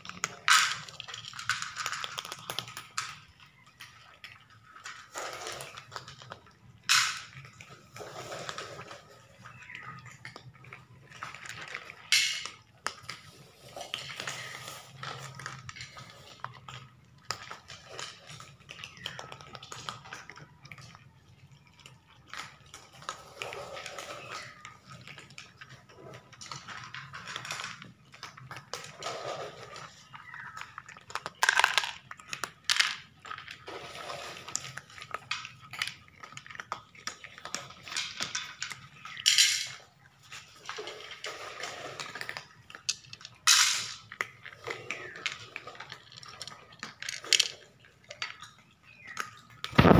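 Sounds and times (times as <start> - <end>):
plastic dishes clattering: 0.0 - 21.1, 21.8 - 49.9
cats crunching dry kibble: 0.0 - 49.9.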